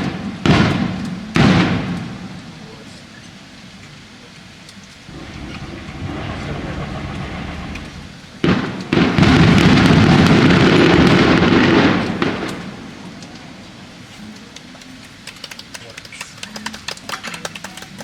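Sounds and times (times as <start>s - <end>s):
fireworks sharp bangs: 0.0s - 3.8s, 5.0s - 18.0s
fireworks rumbling volley: 0.0s - 4.2s, 5.0s - 18.0s
fireworks crackling bursts: 0.0s - 18.0s.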